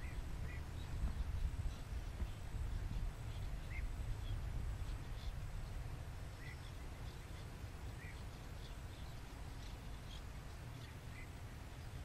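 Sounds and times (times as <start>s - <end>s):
bird chirps: 0.0s - 12.0s
steady low rumble: 0.0s - 12.0s.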